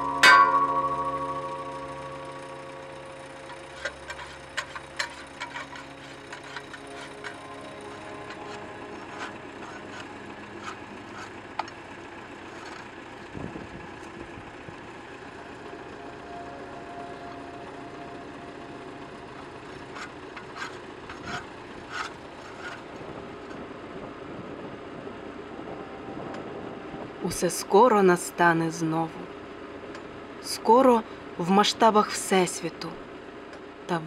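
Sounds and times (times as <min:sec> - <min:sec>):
tractor engine running: 0:00.0 - 0:33.8.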